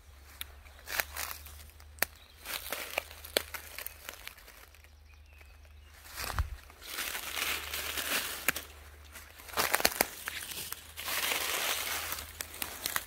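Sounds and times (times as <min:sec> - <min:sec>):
dry leaves rustling and crackling: 0:00.2 - 0:13.0.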